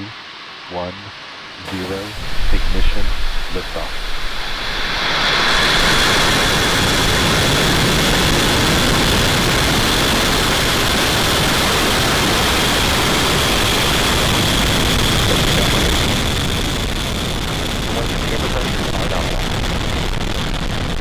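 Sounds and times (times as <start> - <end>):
rocket engines roaring: 0.7 - 21.0.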